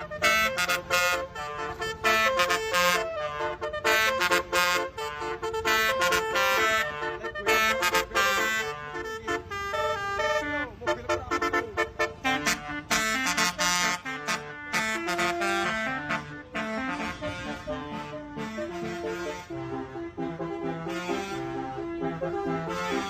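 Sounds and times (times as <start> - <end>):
musical horn melody: 0.0 - 23.0.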